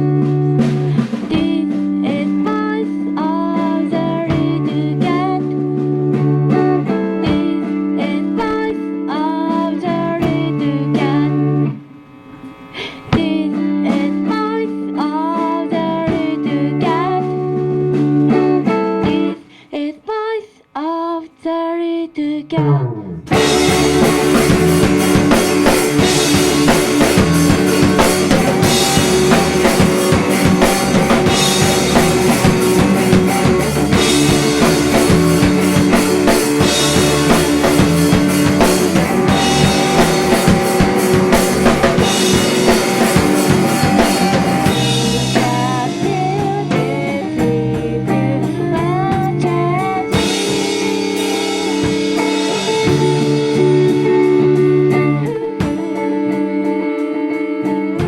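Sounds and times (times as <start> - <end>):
rock band playing live: 0.0 - 11.7, 13.2 - 19.4, 22.8 - 58.0.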